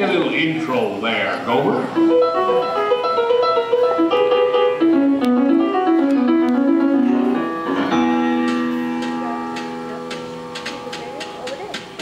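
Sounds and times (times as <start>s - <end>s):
piano playing: 1.8s - 12.0s.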